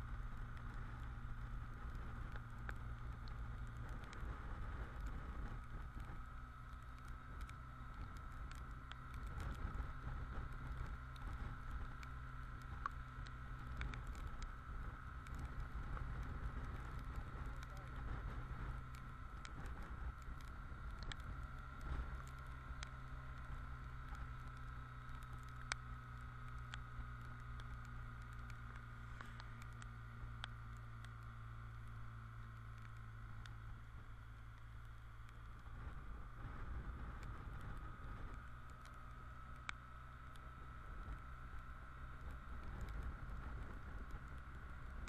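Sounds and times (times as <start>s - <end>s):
motorcycle engine running: 0.0s - 45.0s
raindrops ticking on camera: 0.0s - 45.0s.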